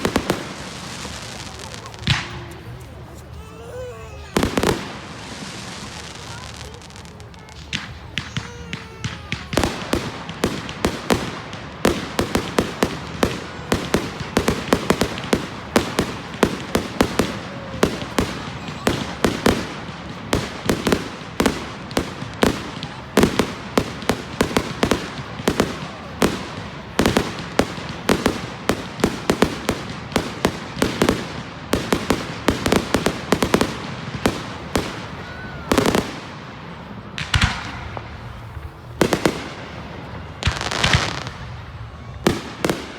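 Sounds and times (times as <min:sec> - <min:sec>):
fireworks bangs and cracks: 0:00.0 - 0:42.9.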